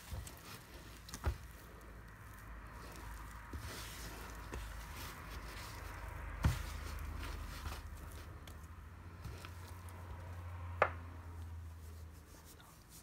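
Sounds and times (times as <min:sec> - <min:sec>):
dough squishing while kneaded: 0:00.0 - 0:13.0.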